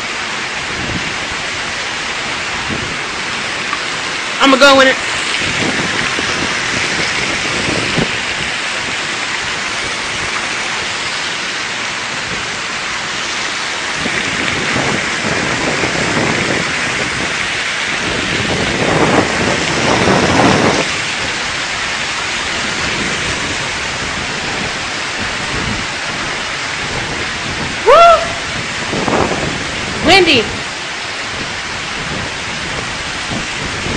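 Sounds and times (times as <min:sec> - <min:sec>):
heavy rain pouring: 0:00.0 - 0:33.9
wind: 0:00.0 - 0:33.9.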